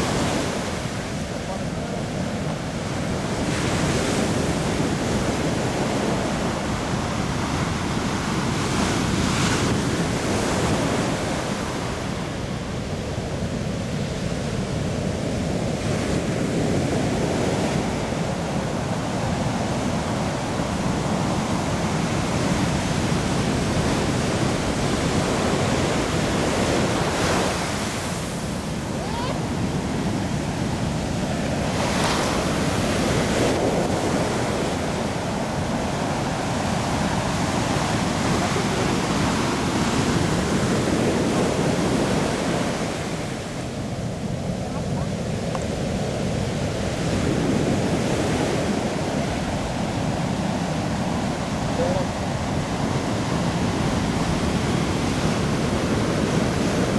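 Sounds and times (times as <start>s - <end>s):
waves breaking on beach: 0.0s - 56.9s.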